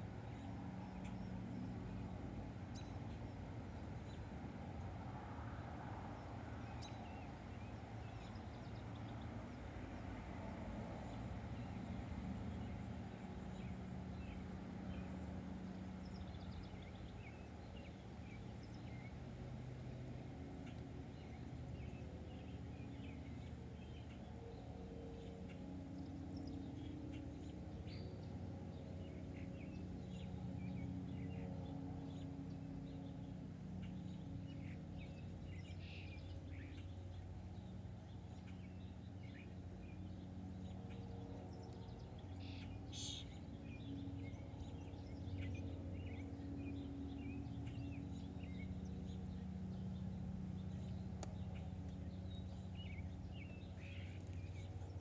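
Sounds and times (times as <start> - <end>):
songbirds chirping: 0.0 - 55.0
steady low background hum: 0.0 - 55.0.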